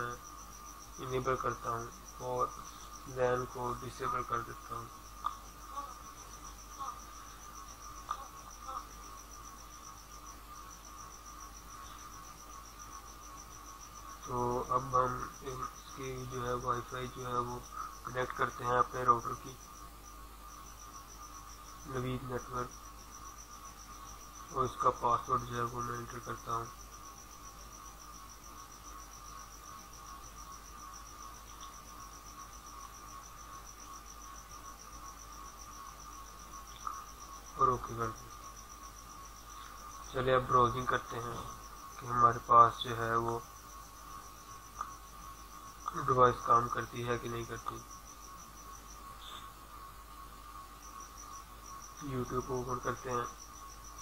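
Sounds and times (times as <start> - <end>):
insect chirping: 0.0 - 54.0
steady whine: 0.0 - 54.0.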